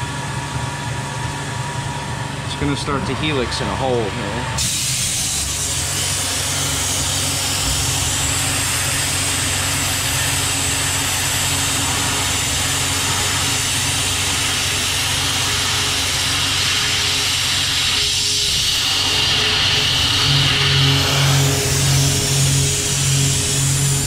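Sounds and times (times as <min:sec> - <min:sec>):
milling machine hum: 0:00.0 - 0:24.0
coolant spraying hiss: 0:04.6 - 0:24.0.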